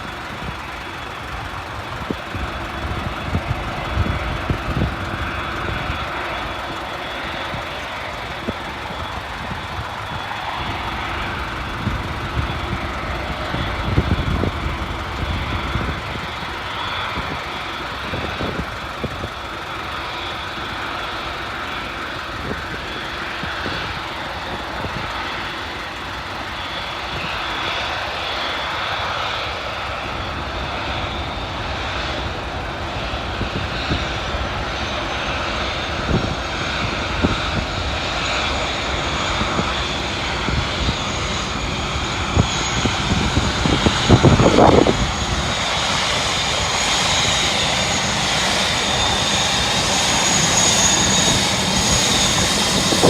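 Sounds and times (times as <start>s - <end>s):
high engine whine: 0.0s - 53.0s
jet engines rushing: 0.0s - 53.0s.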